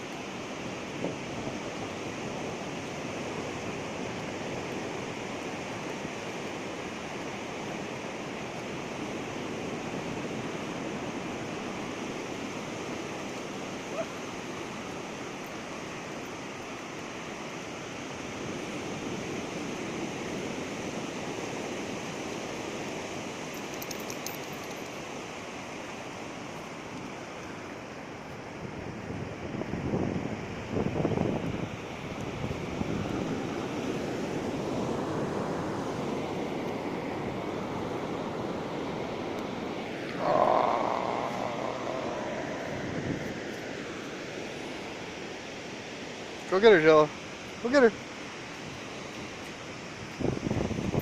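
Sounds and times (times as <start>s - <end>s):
surf breaking on a beach: 0.0s - 23.8s, 24.5s - 51.0s.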